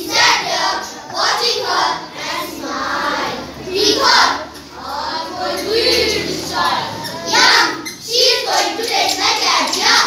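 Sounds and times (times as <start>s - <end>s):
boys singing in chorus: 0.0s - 10.0s.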